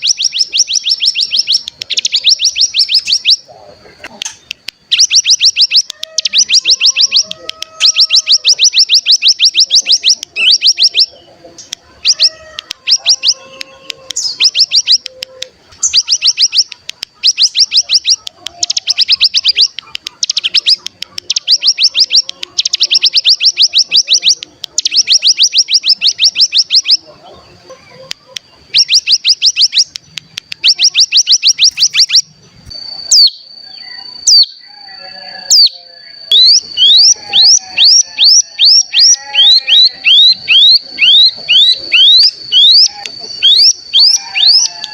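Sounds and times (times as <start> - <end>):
bird chattering trills: 0.0 - 44.9
sharp bird calls: 0.0 - 44.9.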